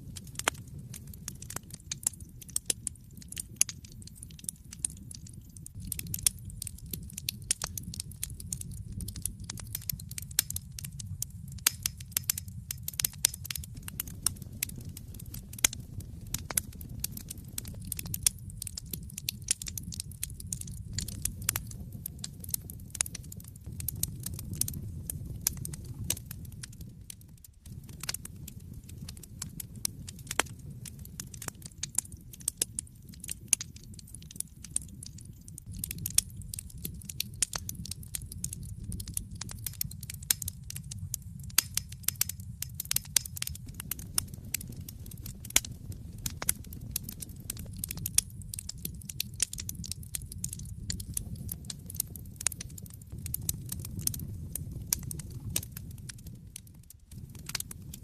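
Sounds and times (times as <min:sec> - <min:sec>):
burning logs crackling and popping: 0:00.0 - 0:58.0
low rumble of fire flames: 0:00.0 - 0:58.0.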